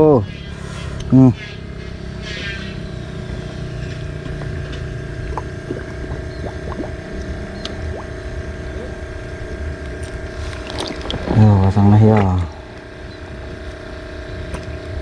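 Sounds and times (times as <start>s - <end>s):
constant tone: 0.0s - 15.0s
low engine hum: 0.0s - 15.0s.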